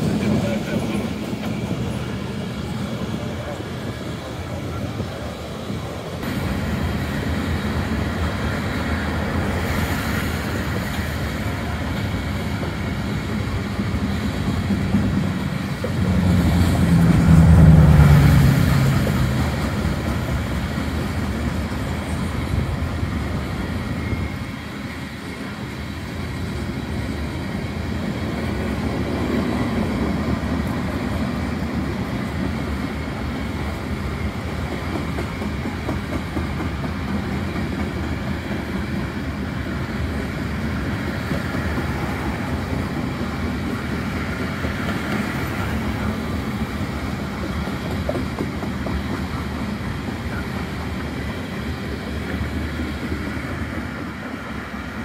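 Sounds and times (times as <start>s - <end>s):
freight train cars rolling past: 0.0s - 55.0s.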